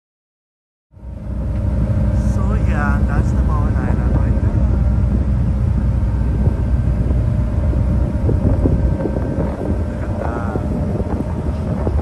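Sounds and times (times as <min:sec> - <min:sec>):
ship engines rumbling: 0:01.0 - 0:12.0
wind buffeting microphone: 0:01.0 - 0:12.0.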